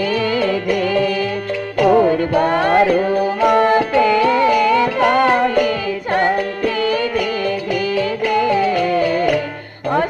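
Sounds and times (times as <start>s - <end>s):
percussion strikes: 0.0s - 10.0s
person singing: 0.0s - 10.0s.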